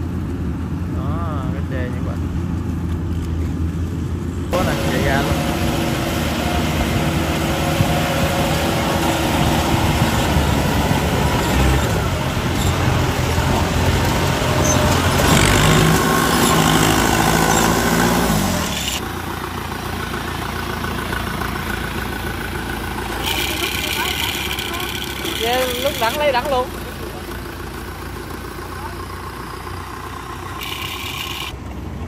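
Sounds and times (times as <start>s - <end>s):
combine harvester engine drone: 0.0s - 32.0s.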